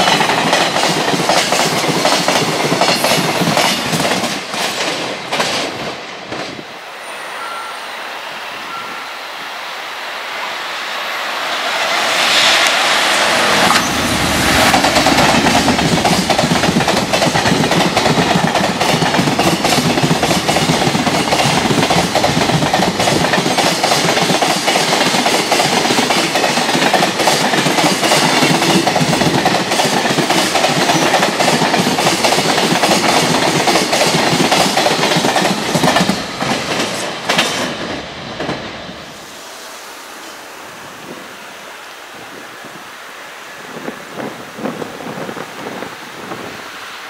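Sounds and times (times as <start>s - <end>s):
freight train wagons rolling past: 0.0s - 42.3s.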